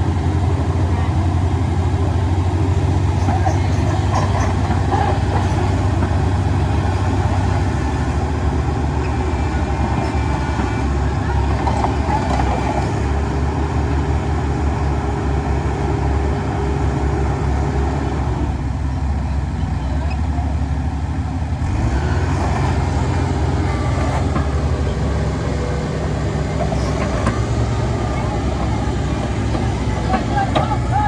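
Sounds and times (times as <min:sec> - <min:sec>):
diesel machinery engine rumble: 0:00.0 - 0:31.0.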